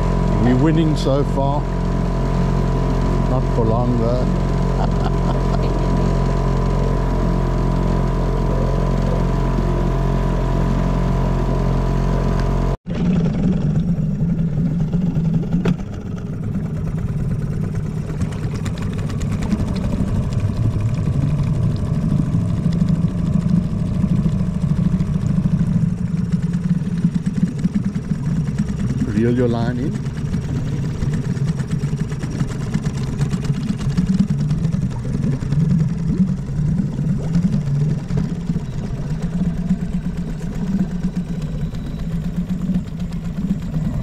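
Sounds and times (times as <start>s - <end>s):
boat engine running: 0.0s - 44.0s.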